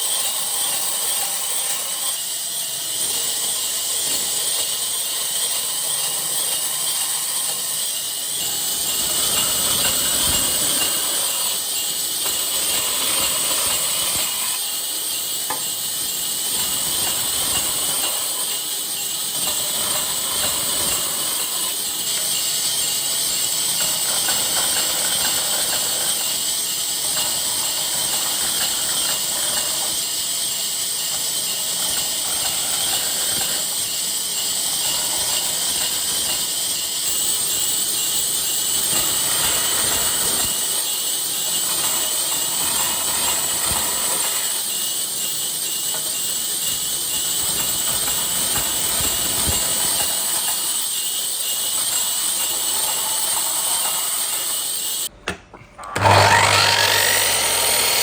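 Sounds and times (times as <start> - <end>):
faint workshop sounds: 0.0 - 58.0.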